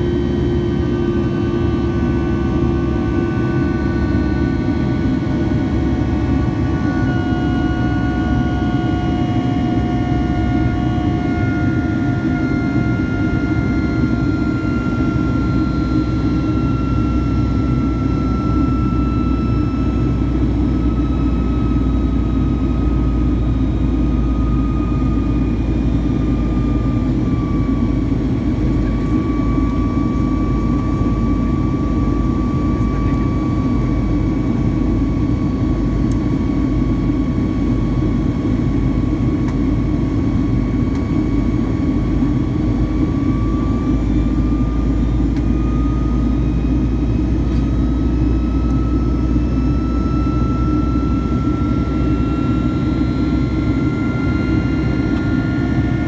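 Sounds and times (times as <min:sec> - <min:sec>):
high fan whine: 0:00.0 - 0:56.0
jet engine low rumble: 0:00.0 - 0:56.0.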